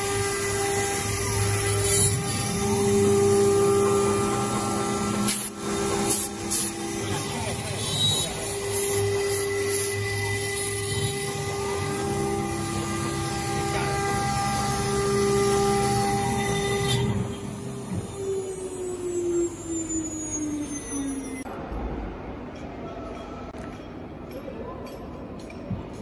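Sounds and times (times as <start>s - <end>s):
wood router spindle whine: 0.0s - 21.4s.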